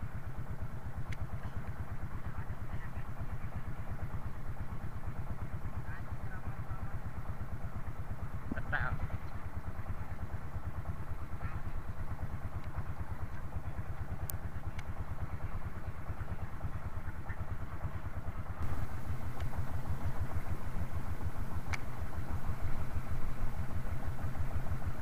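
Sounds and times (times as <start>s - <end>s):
small boat engine running: 0.0s - 25.0s.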